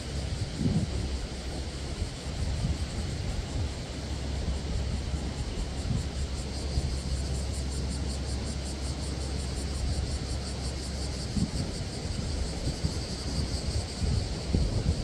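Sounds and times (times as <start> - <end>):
pulsing insect chorus: 0.0 - 15.0
wind rumbling on microphone: 0.0 - 15.0.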